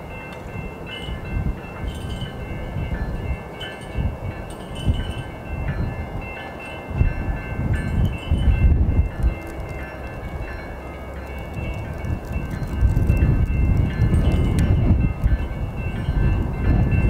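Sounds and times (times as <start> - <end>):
bell ringing: 0.0 - 17.0
diesel locomotive rumble: 0.0 - 17.0.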